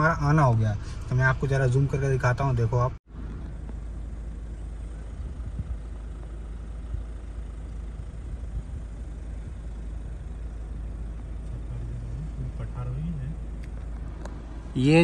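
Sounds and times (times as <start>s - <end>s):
car driving on rough track: 0.0s - 15.0s.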